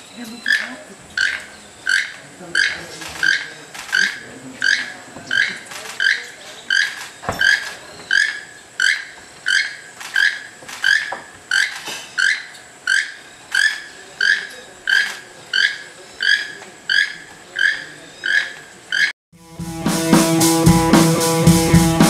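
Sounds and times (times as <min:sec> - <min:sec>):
toucan calling: 0:00.0 - 0:19.1.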